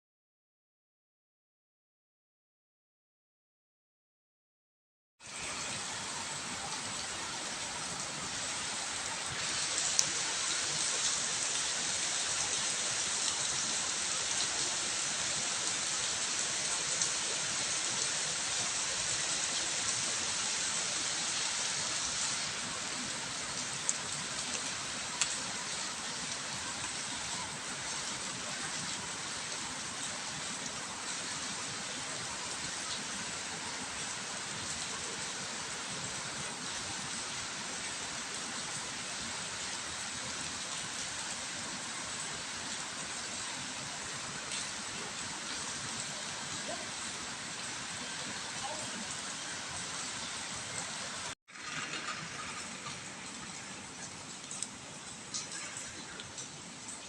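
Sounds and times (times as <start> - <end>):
heavy rain hissing: 5.2 - 57.0.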